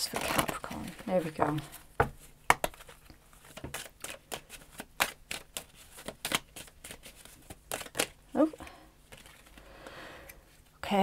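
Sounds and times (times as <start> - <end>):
cards being shuffled: 0.0 - 9.7.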